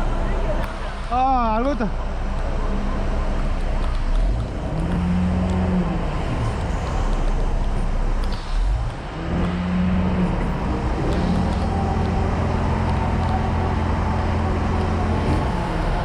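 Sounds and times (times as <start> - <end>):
diesel truck engine humming: 0.0 - 16.0
road noise: 0.0 - 16.0.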